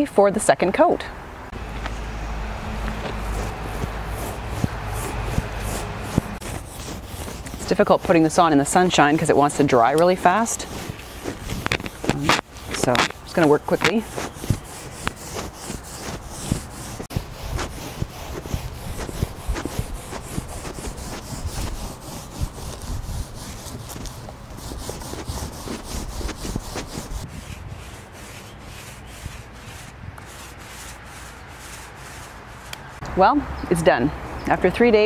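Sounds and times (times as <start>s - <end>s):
paint roller rubbing: 1.7s - 33.0s.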